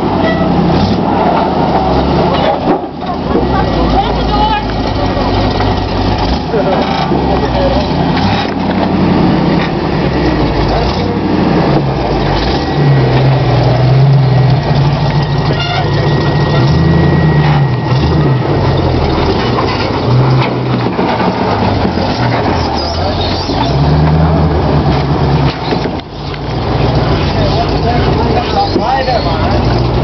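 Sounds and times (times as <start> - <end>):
engine revving under load: 0.0 - 30.0.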